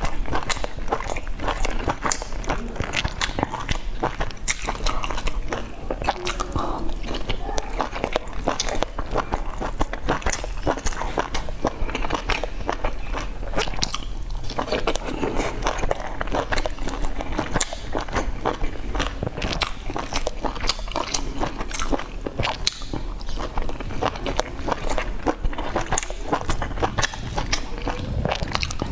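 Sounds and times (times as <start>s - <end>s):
person chewing dumplings: 0.0s - 28.9s.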